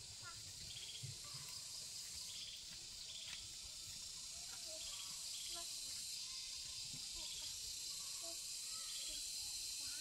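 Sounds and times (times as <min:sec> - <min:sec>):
insect chorus: 0:00.0 - 0:10.0
insect trills: 0:00.0 - 0:10.0
faint bird chirps: 0:00.2 - 0:10.0.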